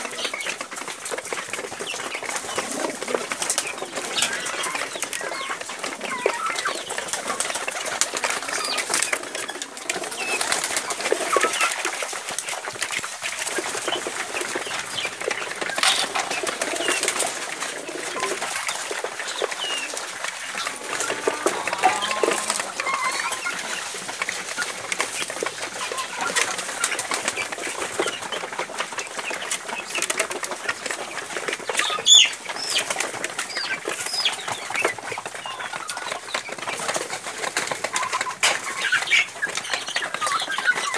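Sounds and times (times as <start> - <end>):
birds pecking and scratching ground: 0.0 - 40.9
wings flapping: 0.0 - 40.9.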